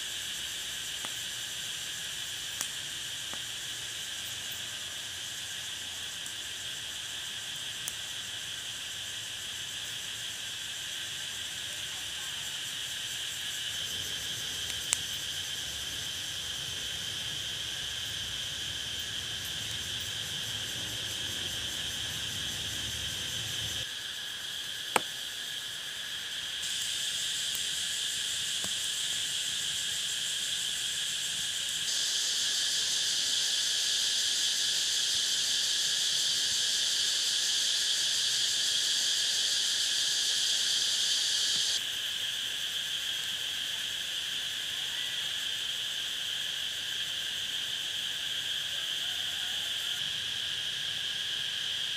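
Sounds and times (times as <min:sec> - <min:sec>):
insects chorus: 0:00.0 - 0:51.9.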